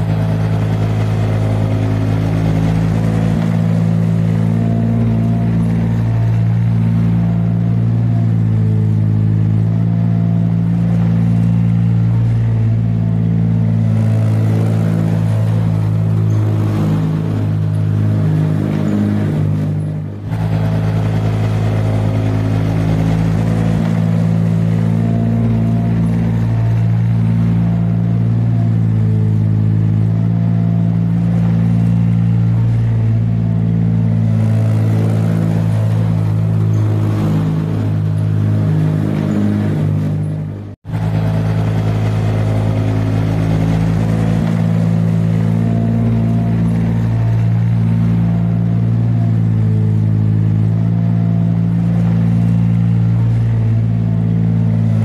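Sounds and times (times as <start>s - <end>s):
heavy vehicle engine running: 0.0s - 55.0s.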